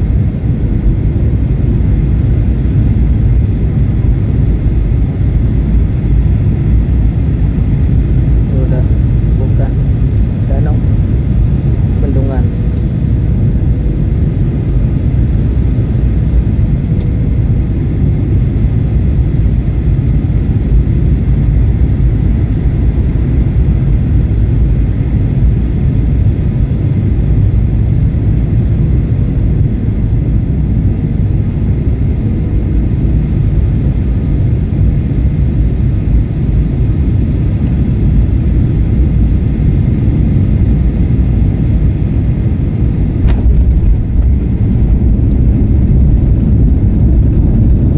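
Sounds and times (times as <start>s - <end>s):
jet engine and airflow noise: 0.0s - 47.9s.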